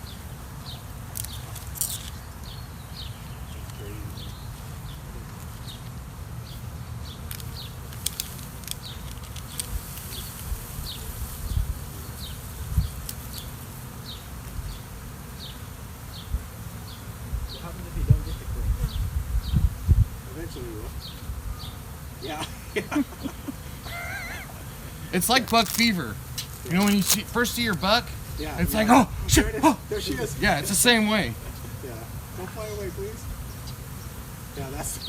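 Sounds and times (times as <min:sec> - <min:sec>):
bee swarm buzzing: 0:00.0 - 0:35.0.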